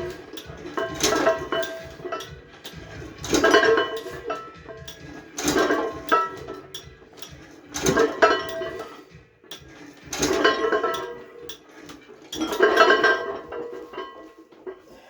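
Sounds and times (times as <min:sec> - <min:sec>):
clinking ringing clatter: 0:00.0 - 0:14.9.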